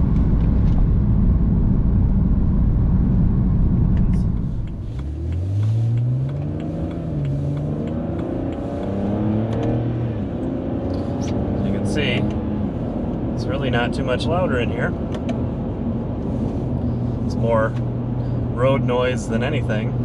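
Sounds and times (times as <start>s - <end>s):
car engine accelerating: 0.0s - 20.0s
road noise: 0.0s - 20.0s.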